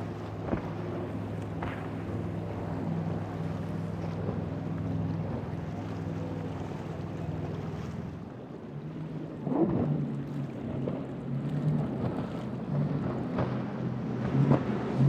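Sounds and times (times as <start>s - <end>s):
boat motor drone: 0.0s - 15.0s.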